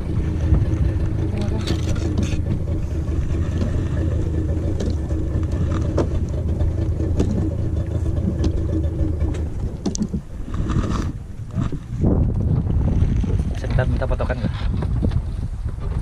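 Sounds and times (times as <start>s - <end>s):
motorboat engine idling: 0.0s - 16.0s.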